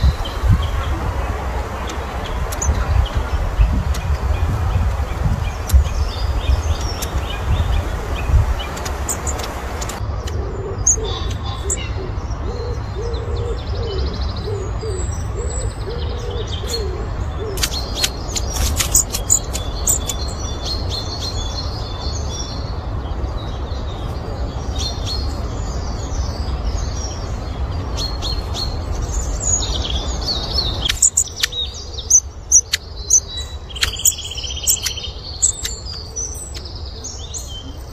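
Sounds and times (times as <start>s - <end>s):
small birds chirping: 0.0s - 37.9s
steady low rumble: 0.0s - 37.9s.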